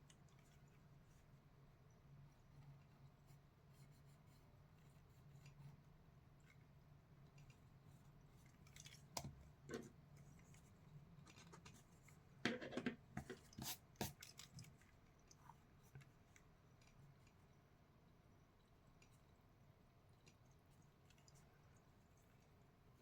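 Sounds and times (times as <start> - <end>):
faint low hum: 0.0 - 13.6, 14.2 - 23.0.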